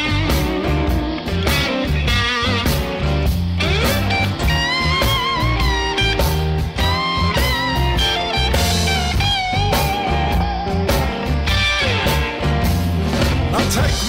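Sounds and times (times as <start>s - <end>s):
blues-rock electric guitar music: 0.0s - 14.0s.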